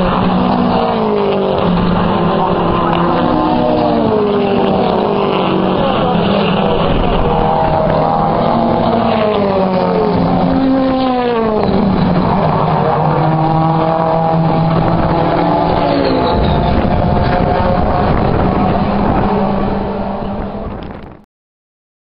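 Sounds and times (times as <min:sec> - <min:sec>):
racing cars passing by: 0:00.0 - 0:21.2.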